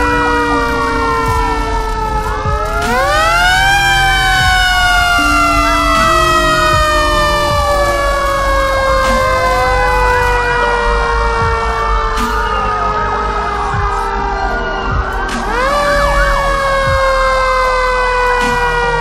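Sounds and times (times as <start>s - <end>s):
emergency sirens wailing: 0.0s - 19.0s.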